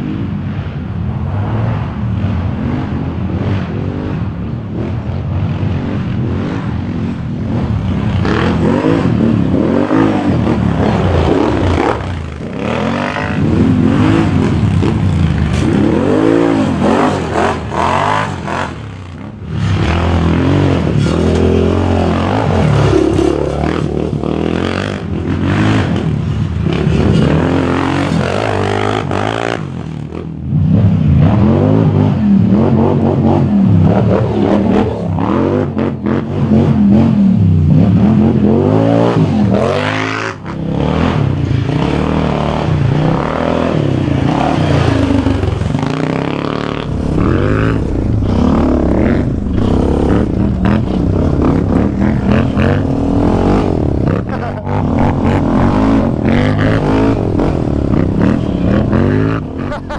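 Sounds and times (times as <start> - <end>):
atv engine revving: 5.6 - 59.9.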